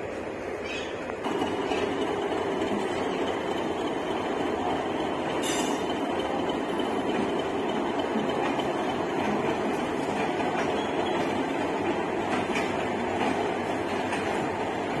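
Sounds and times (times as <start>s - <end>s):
train rail rumble and hiss: 0.0s - 15.0s.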